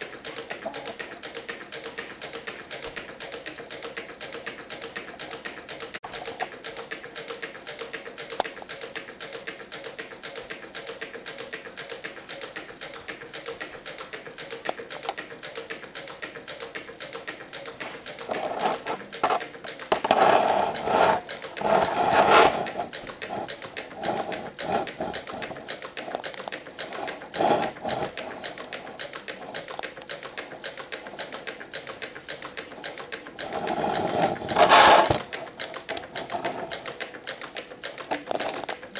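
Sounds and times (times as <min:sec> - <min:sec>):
model engine gears clattering: 0:00.0 - 0:38.9.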